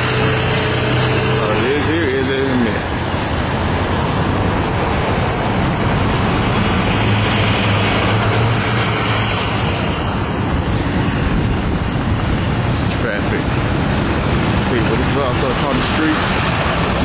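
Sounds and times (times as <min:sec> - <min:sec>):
low hum: 0:00.0 - 0:14.7
vehicle engine and road rumble: 0:00.0 - 0:17.0.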